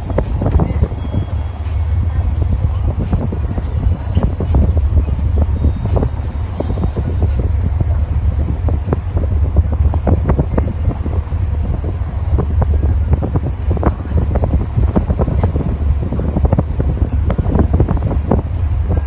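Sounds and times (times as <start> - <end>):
steady low rumble: 0.0 - 19.0
wind buffeting microphone: 0.0 - 19.0.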